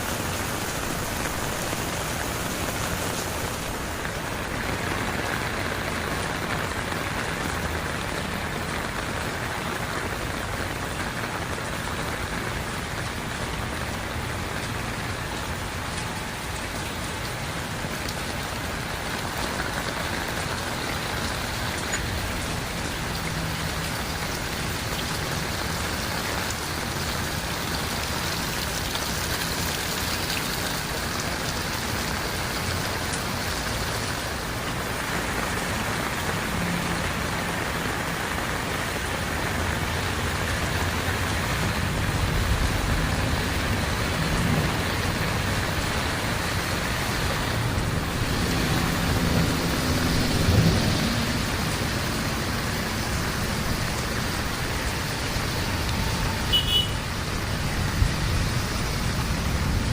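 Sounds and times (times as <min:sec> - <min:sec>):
heavy rain: 0:00.0 - 0:59.9
raindrops ticking close by: 0:00.0 - 0:59.9.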